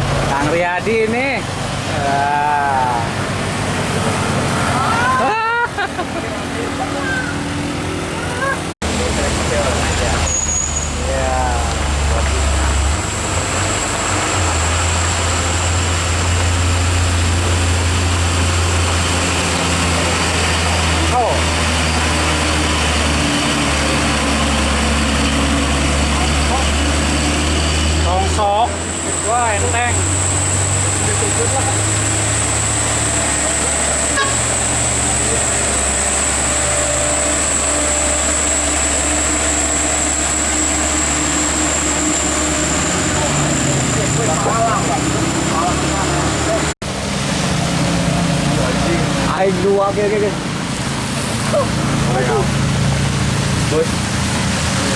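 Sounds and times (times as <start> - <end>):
truck diesel engine droning: 0.0 - 54.9.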